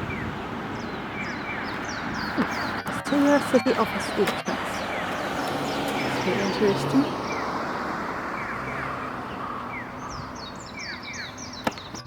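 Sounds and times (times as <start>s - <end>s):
street noise hiss: 0.0s - 12.0s.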